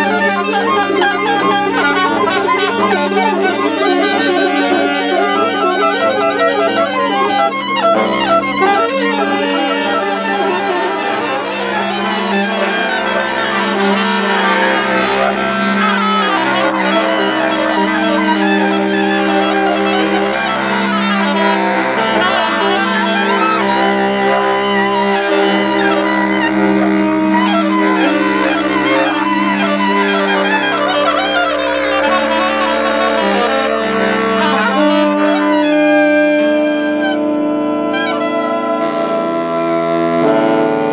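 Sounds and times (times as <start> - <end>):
saxophone ensemble playing: 0.0 - 40.9.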